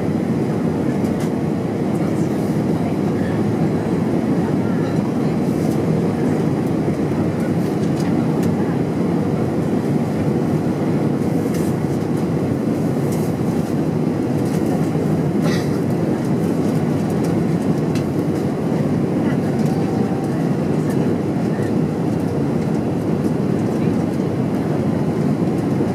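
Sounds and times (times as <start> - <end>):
airplane cabin engine rumble: 0.0 - 25.9.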